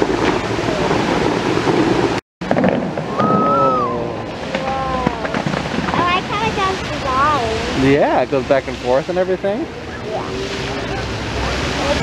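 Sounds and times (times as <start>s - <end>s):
fountain jets spraying water: 0.0s - 12.0s.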